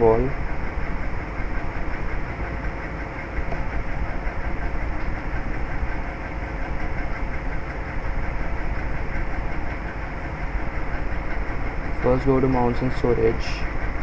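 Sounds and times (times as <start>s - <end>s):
faint steady hum: 0.0s - 14.0s
low mechanical noise: 0.0s - 14.0s.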